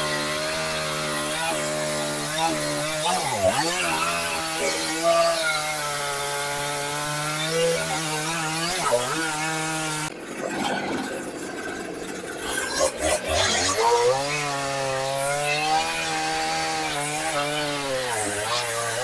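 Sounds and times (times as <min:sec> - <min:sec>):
chainsaw cutting log: 0:00.0 - 0:10.2, 0:11.0 - 0:19.0.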